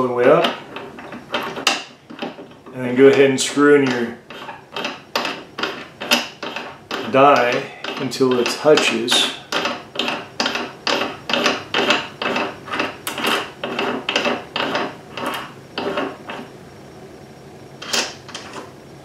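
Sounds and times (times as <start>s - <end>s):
metal threads rasping: 0.0s - 16.5s.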